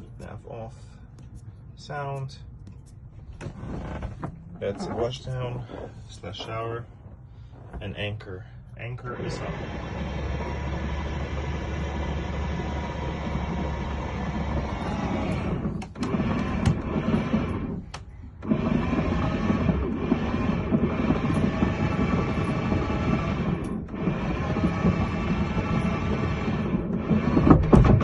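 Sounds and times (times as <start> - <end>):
electric anchor windlass running: 3.2 - 28.0.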